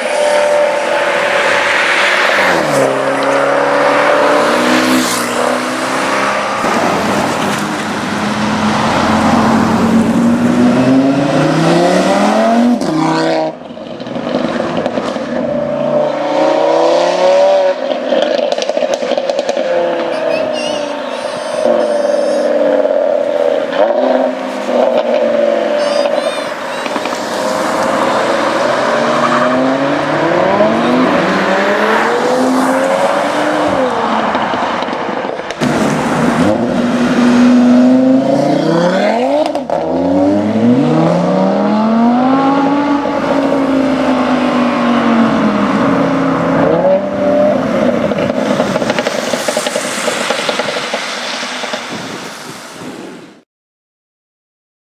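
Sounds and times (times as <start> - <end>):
car engine accelerating hard: 0.0 - 21.0, 21.6 - 51.8.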